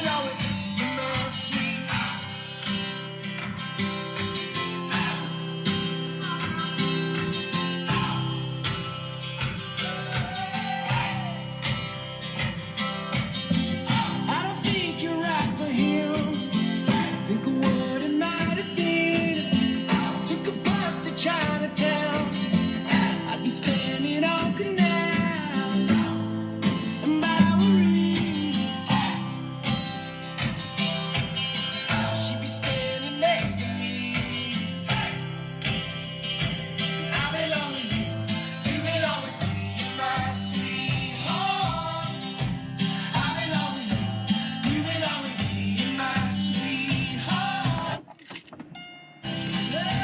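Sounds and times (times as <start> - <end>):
music with strummed guitar and beat: 0.0 - 50.0
song on car stereo: 0.0 - 50.0.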